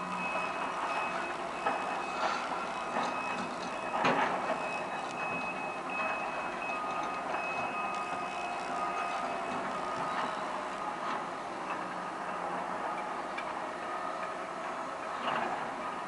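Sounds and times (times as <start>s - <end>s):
excavator engine whining: 0.0s - 16.0s.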